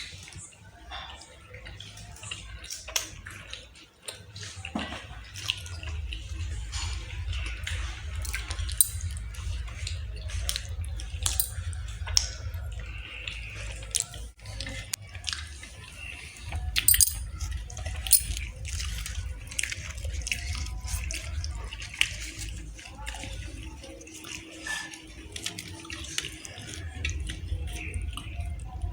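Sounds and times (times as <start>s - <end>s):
person chewing with wet clicks: 0.0s - 28.9s.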